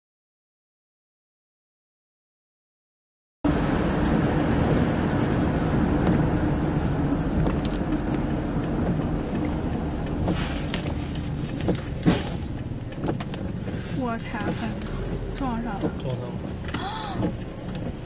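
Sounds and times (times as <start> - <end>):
car road and engine noise: 3.4 - 18.0.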